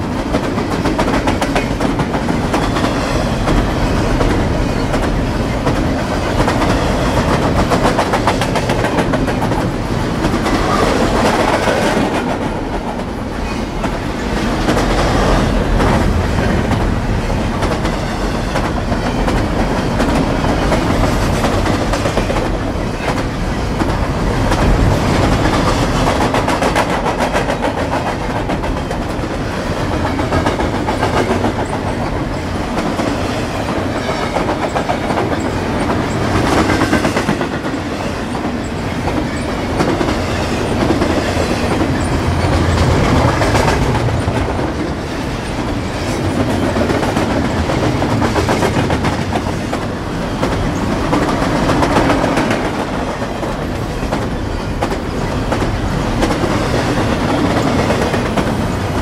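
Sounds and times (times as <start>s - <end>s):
freight wheels rumbling on rail: 0.0s - 59.0s.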